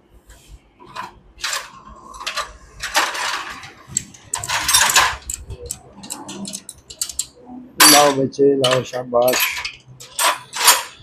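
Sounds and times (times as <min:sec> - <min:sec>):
metal tools scraping: 0:00.9 - 0:11.0
metal tools clinking: 0:01.4 - 0:11.0.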